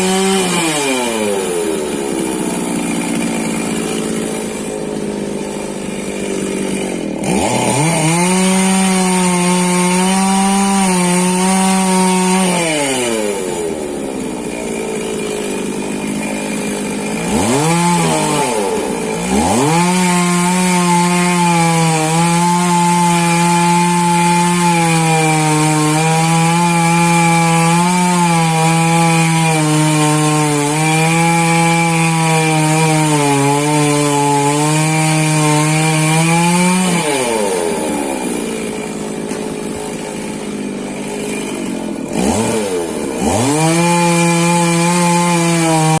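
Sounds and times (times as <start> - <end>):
chainsaw running at high revs: 0.0 - 46.0.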